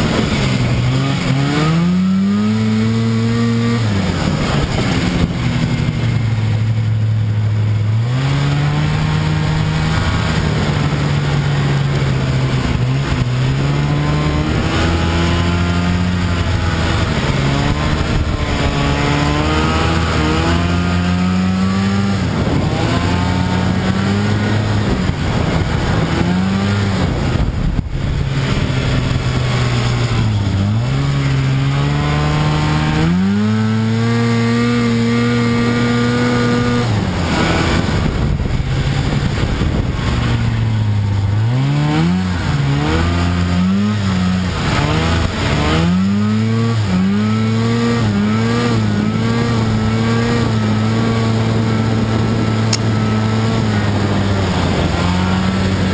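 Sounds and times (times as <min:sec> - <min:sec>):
constant rushing noise: 0:00.0 - 0:55.9
snowmobile engine revving: 0:00.0 - 0:55.9.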